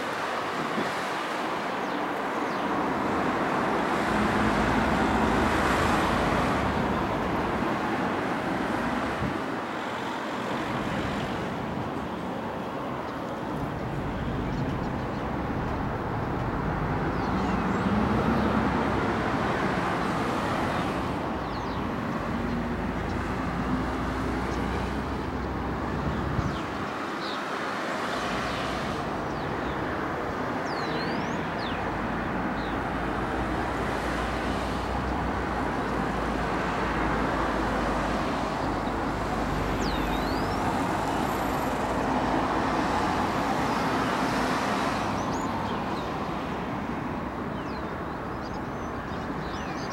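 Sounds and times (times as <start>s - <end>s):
cars passing: 0.0s - 49.9s.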